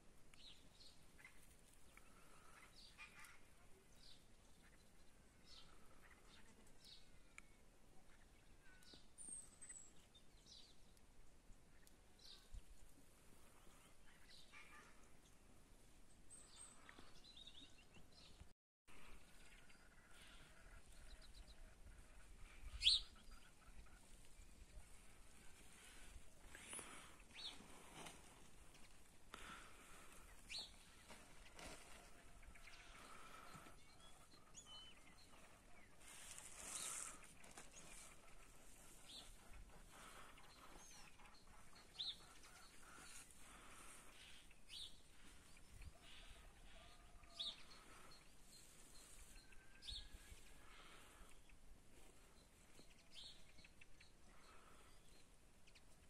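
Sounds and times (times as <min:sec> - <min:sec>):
faint bird chirps: 0:00.3 - 0:11.0, 0:16.1 - 0:56.0.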